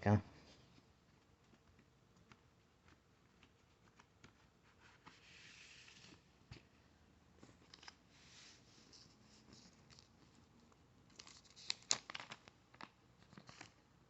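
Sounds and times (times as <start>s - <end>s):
paper sleeves rustling: 0.4s - 6.7s, 7.4s - 12.4s.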